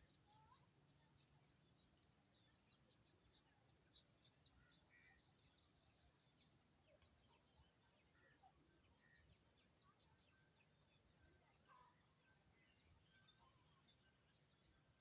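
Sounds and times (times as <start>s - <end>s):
faint chirping of small birds: 0.0s - 15.0s.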